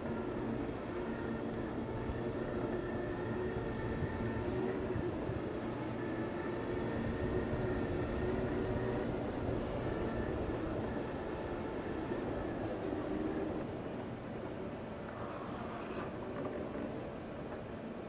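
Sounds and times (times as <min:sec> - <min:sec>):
electric drive hum and whine: 0:00.0 - 0:18.0
low rumble of large hall: 0:00.0 - 0:18.0.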